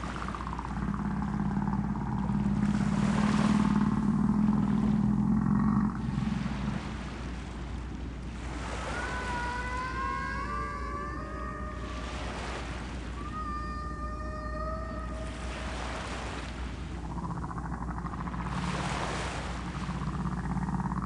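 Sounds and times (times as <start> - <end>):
low rumbling hum: 0.0 - 21.0.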